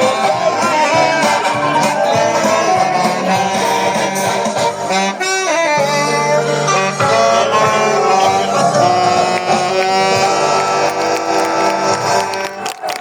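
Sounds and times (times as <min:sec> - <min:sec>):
saxophone melody: 0:00.0 - 0:12.8
accompanying music: 0:00.0 - 0:13.0.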